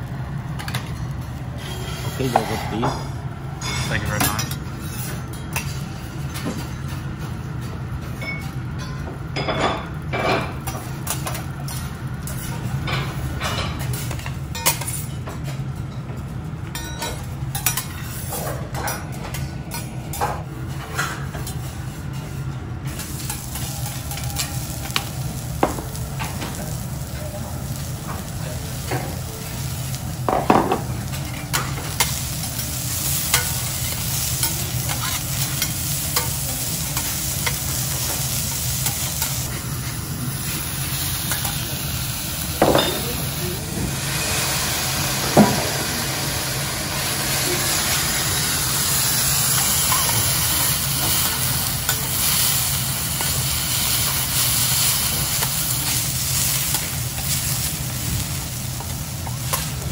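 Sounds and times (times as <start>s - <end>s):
rice sizzling on a griddle: 0.0s - 2.6s, 4.8s - 15.1s, 19.7s - 59.9s.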